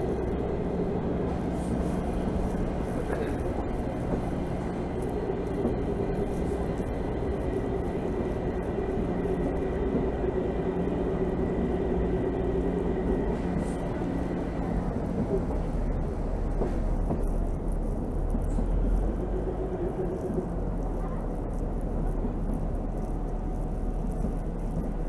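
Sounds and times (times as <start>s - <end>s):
diesel locomotive engine drone: 0.0s - 25.0s
wheels running on rails: 0.0s - 25.0s.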